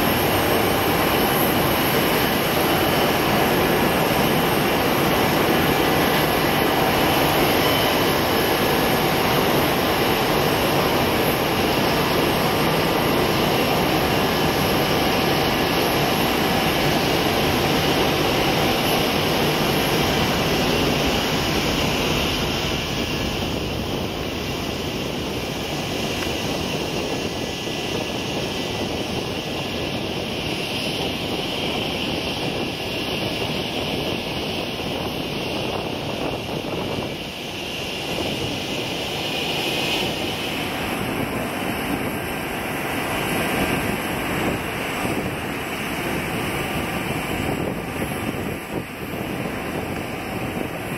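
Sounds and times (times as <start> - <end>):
jet engines roaring: 0.0 - 50.9.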